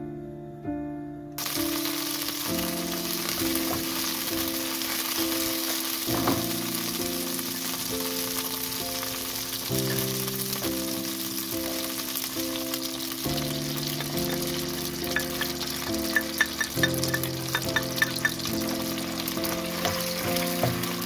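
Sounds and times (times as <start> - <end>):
background music: 0.0 - 21.0
oil sizzling in a frying pan: 1.4 - 21.0.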